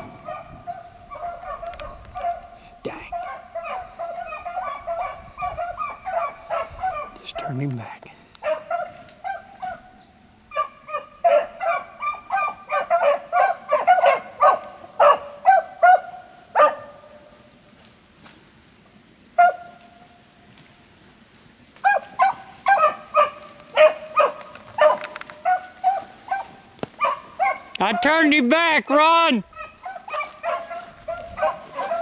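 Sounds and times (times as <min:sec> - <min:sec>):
beagles baying: 0:00.0 - 0:17.5, 0:19.3 - 0:20.3, 0:21.7 - 0:32.0.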